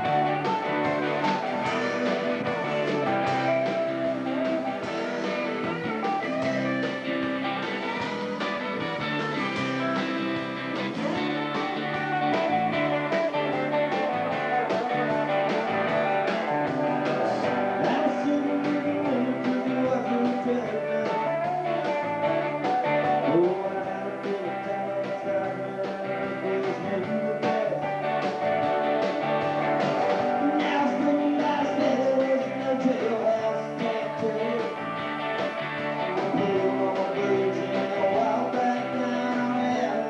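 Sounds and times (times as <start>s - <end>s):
person singing: 0.0s - 8.0s, 11.0s - 28.2s, 30.0s - 35.1s, 36.0s - 40.0s
rock band playing: 0.0s - 40.0s.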